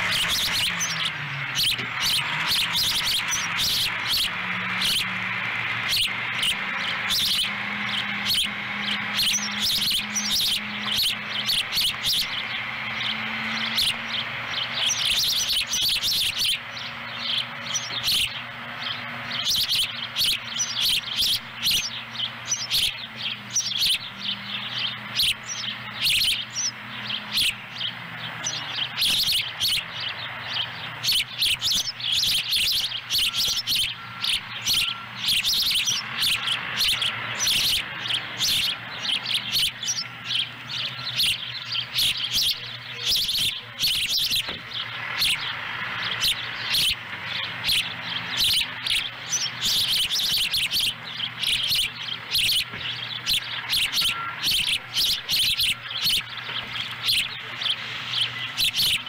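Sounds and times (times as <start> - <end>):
young osprey chirping: 0.0 - 59.0.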